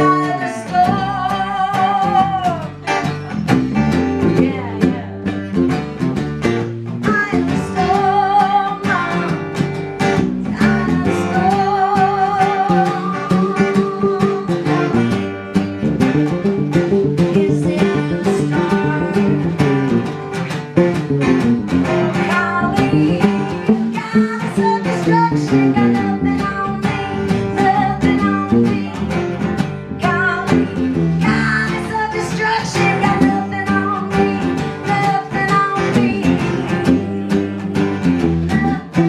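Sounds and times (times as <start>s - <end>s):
acoustic guitar rhythm: 0.0s - 39.0s.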